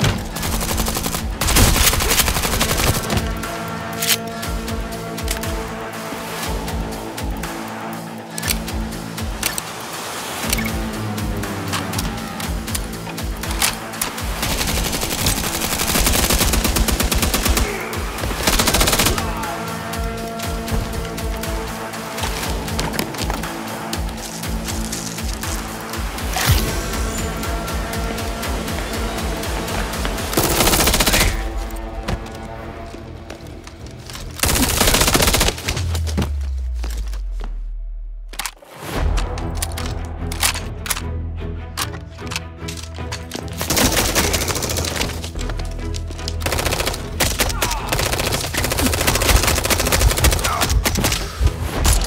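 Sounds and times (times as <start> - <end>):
background music: 0.0 - 52.0.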